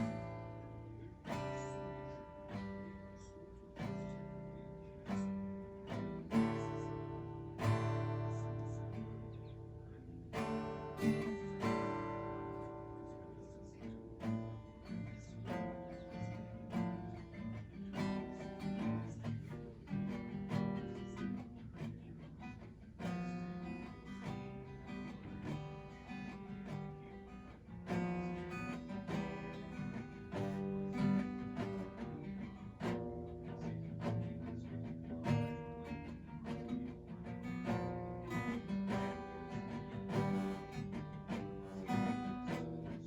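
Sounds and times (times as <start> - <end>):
acoustic guitar strumming: 0.0 - 43.0.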